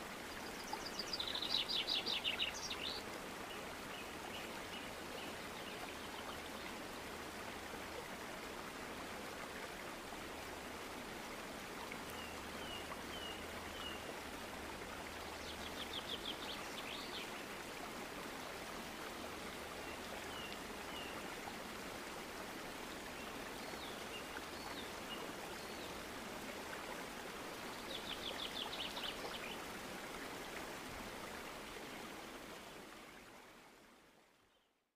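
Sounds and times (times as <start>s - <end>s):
running water: 0.0s - 34.3s.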